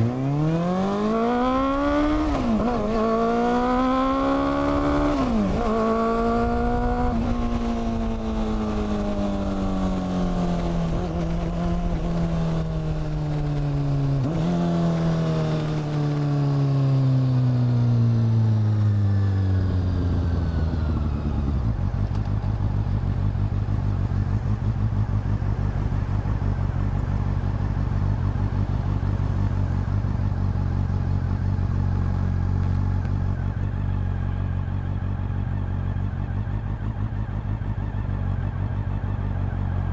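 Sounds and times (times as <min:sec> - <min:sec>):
motorcycle engine slowing to idle: 0:04.4 - 0:39.9.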